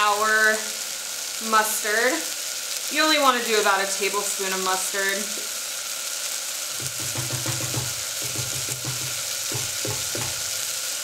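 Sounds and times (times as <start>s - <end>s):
onion and garlic sizzling: 0.0s - 11.0s.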